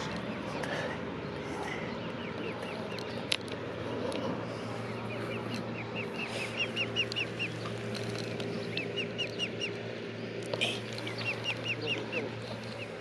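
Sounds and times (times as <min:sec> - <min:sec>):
cygnets peeping: 0:00.0 - 0:13.0.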